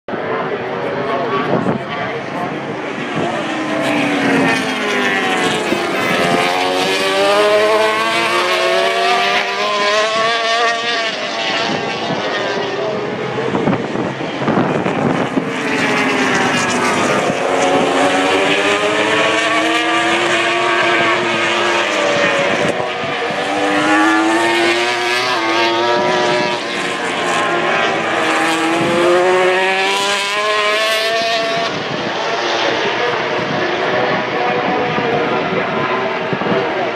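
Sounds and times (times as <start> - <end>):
racing motorcycles passing at speed: 0.1 - 36.9.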